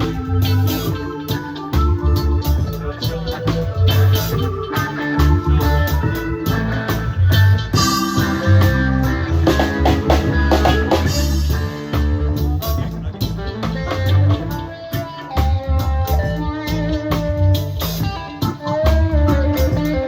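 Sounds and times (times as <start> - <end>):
drum kit: 0.0 - 20.0
guitar: 0.0 - 20.0
live band playing: 0.0 - 20.0
steady bass line: 0.0 - 20.0.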